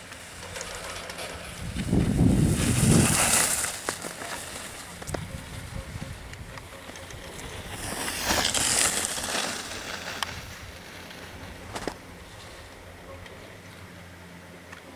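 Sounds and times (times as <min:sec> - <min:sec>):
skis scraping across snow: 0:00.0 - 0:13.0.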